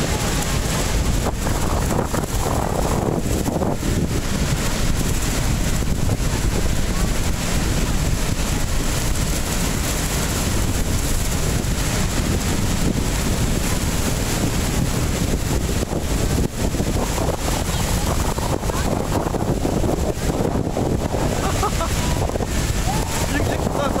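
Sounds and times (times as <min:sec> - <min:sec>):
waterfall rushing onto rocks: 0:00.0 - 0:24.0
wind buffeting microphone: 0:00.0 - 0:24.0.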